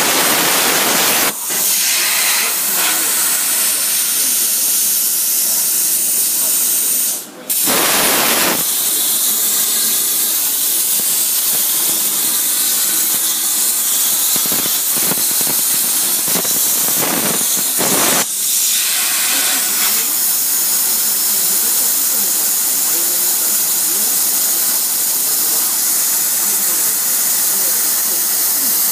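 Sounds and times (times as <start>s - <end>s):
plasma torch hissing: 0.0s - 28.9s.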